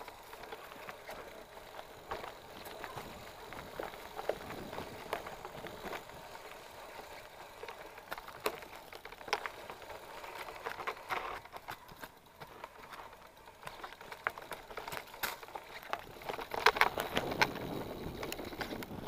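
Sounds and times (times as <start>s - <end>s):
bike knocks and rattles: 0.0s - 19.0s
bike tyres on dirt: 0.0s - 19.0s.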